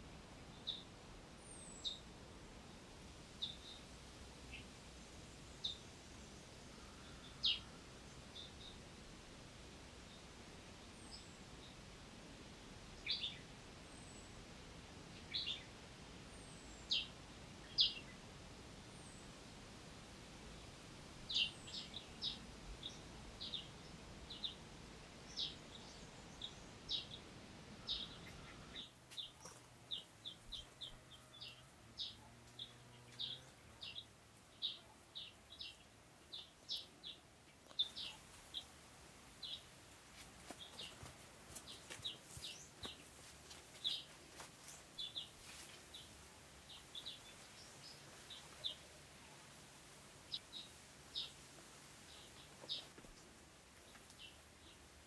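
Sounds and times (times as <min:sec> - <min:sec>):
faint outdoor hiss: 0:00.0 - 0:55.0
small birds chirping: 0:00.5 - 0:02.1, 0:03.4 - 0:08.8, 0:13.0 - 0:14.4, 0:15.1 - 0:18.2, 0:20.6 - 0:55.0.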